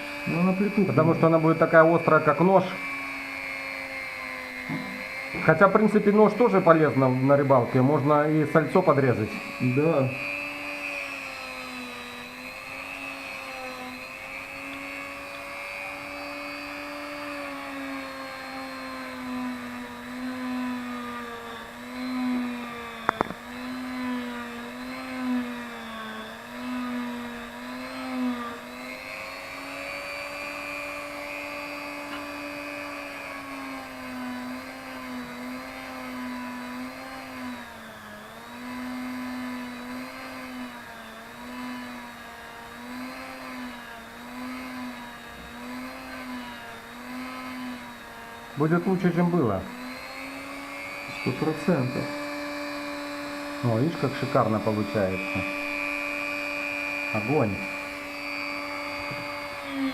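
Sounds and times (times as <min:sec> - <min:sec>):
electric motor polishing wheel whine: 0:00.0 - 0:59.9.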